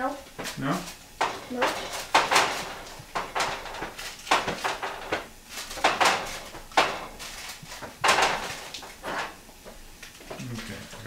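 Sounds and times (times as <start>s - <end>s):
dishes and pans clattering: 0.4s - 9.4s.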